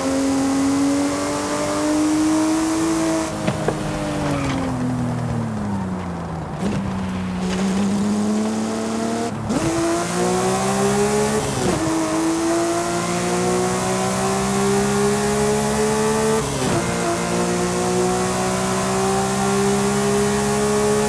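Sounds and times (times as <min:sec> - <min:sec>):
car engine revving under load: 0:00.0 - 0:21.0.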